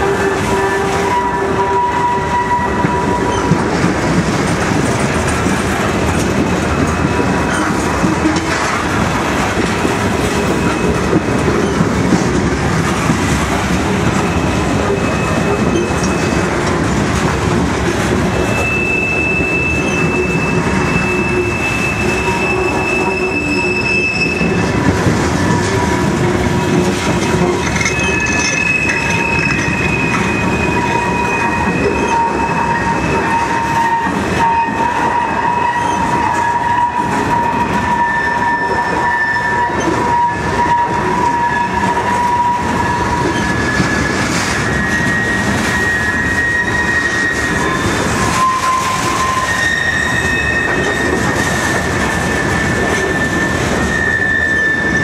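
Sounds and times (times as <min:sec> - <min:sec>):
high-pitched wheel squeals: 0:00.0 - 0:03.8, 0:06.1 - 0:11.9, 0:14.1 - 0:16.6, 0:18.0 - 0:55.0
train wheels rumbling on rail: 0:00.0 - 0:55.0.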